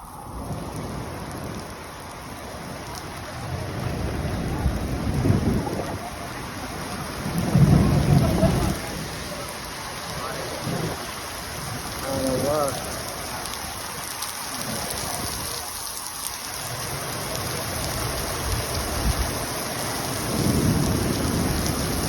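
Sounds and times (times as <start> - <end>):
thunder rumbling: 0.0 - 13.2, 16.8 - 22.0
heavy rain falling: 0.0 - 22.0.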